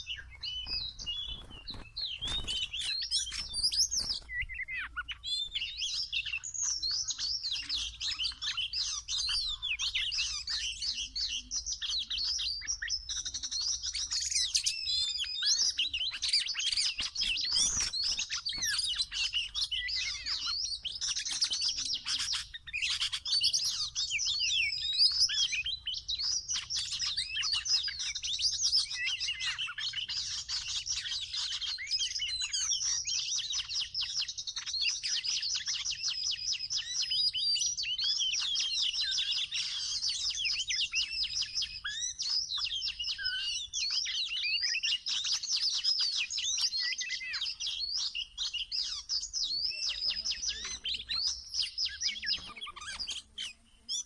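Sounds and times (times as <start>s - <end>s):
bird singing varied whistles: 0.0s - 54.0s.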